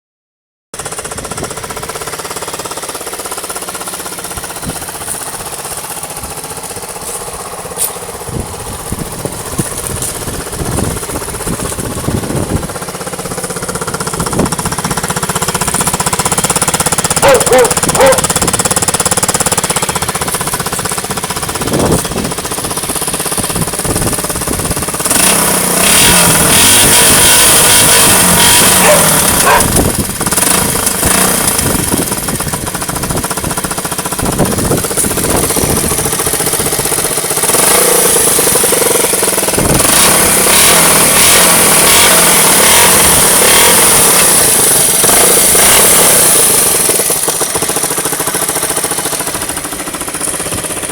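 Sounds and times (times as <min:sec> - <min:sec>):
motorcycle engine running: 0:00.7 - 0:50.9.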